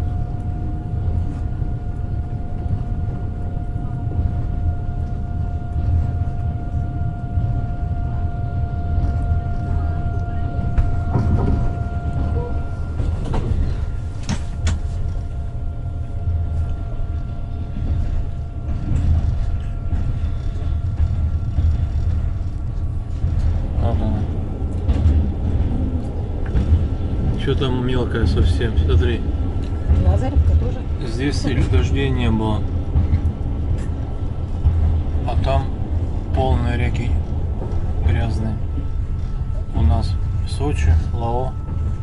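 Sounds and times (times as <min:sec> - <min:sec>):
thin steady whine: 0:00.0 - 0:42.0
train wheels rumbling on track: 0:00.0 - 0:42.0.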